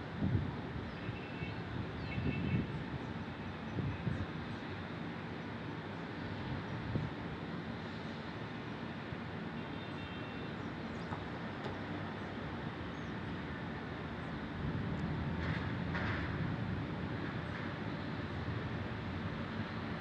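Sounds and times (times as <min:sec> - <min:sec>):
city traffic hum: 0:00.0 - 0:20.0
heavy vehicle rumble: 0:00.0 - 0:20.0.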